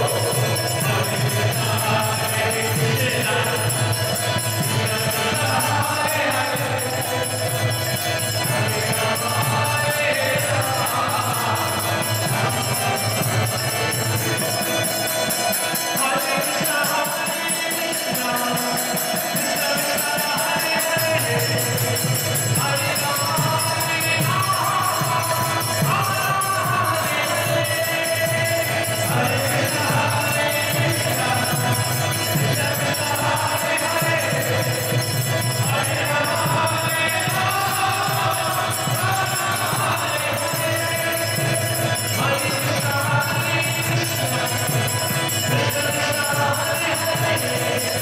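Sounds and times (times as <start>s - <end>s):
harmonium: 0.0s - 48.0s
jingling percussion: 0.0s - 48.0s
man singing a chant: 0.0s - 48.0s.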